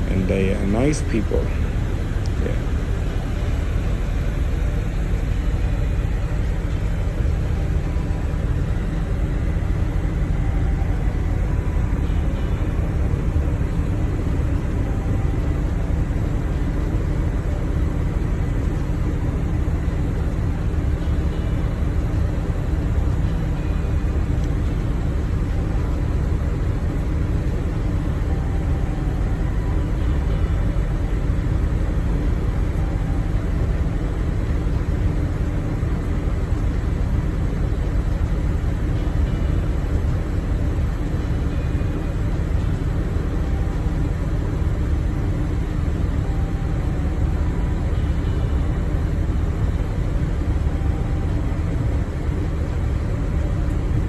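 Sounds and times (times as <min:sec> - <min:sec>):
road vehicle rumble: 0:00.0 - 0:54.0.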